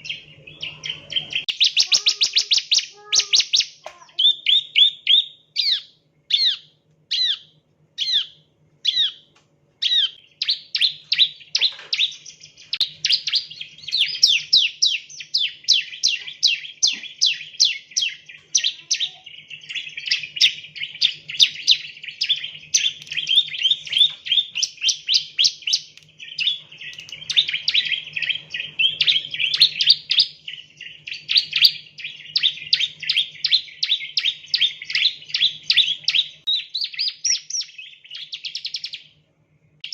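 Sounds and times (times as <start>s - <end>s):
bird chirping sharply: 0.0s - 39.1s
faint low hum: 0.0s - 39.9s.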